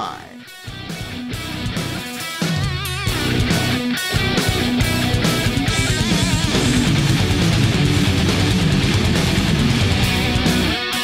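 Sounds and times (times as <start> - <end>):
rock music with strummed guitar: 0.0 - 11.0.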